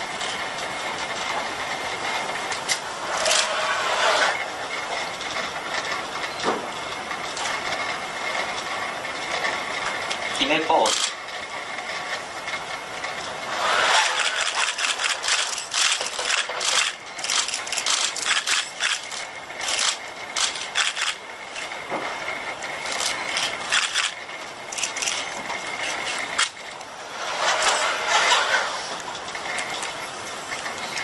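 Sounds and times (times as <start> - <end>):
robot motors clicking and rattling: 2.5 - 6.3, 7.3 - 22.1, 22.8 - 31.0.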